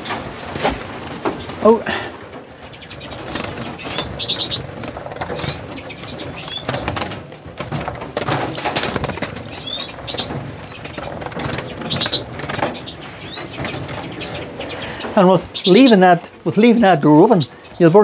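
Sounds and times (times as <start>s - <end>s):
small birds flapping wings: 0.0s - 18.0s.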